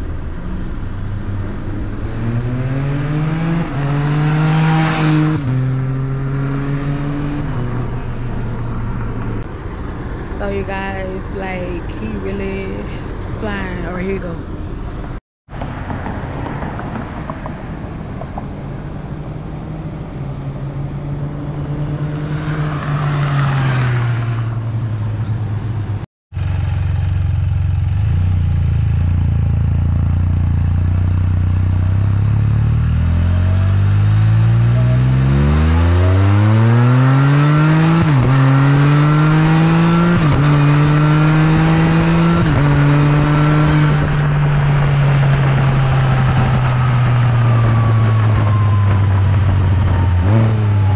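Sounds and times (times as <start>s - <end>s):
motorcycle engine accelerating: 0.0s - 10.4s, 11.9s - 50.9s.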